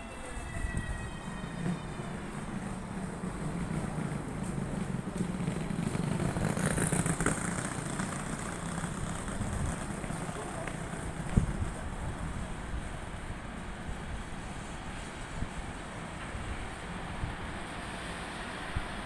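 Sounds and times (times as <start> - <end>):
electric locomotive hum: 0.0 - 19.0.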